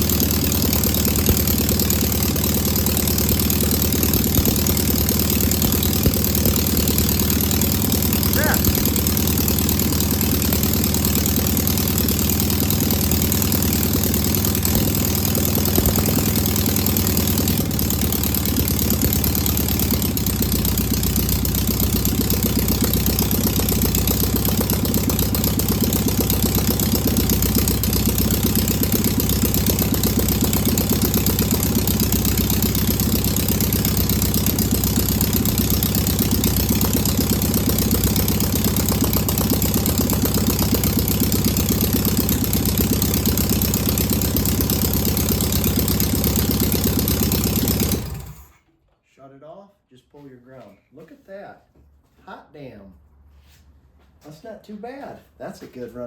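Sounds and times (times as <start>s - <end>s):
car engine idling: 0.0s - 48.6s.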